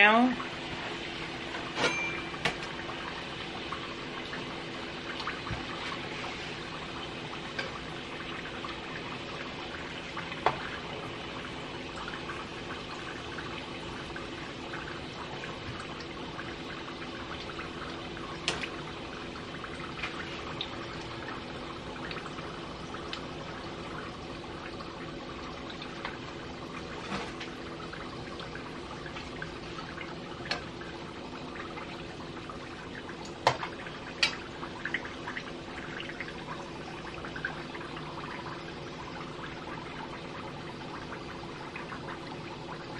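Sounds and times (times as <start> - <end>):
oil bubbling and sizzling: 0.0 - 42.9.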